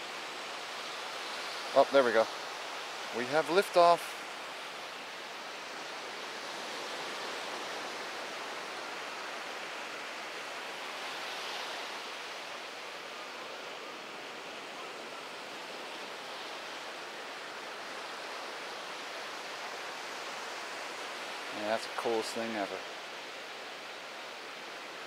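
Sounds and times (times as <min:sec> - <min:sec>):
ocean surf washing on beach: 0:00.0 - 0:25.0.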